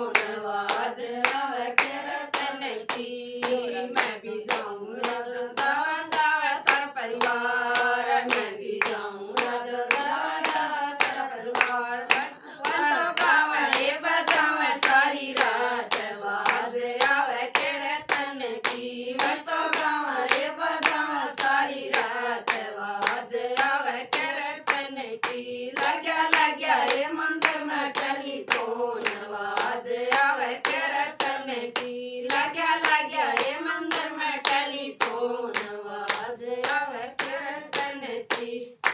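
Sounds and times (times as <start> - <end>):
rhythmic hand clapping: 0.0 - 38.9
voices singing devotional song: 0.0 - 38.9.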